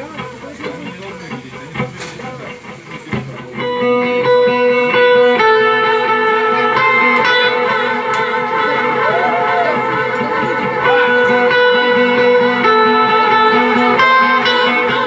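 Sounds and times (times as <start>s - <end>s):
guitar playing chords: 0.0s - 15.0s.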